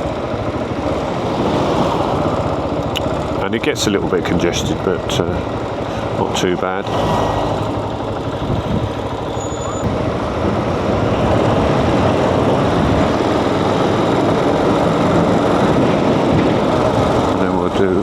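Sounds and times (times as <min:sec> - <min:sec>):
motorcycle engine: 0:00.0 - 0:18.0
road noise: 0:00.0 - 0:18.0.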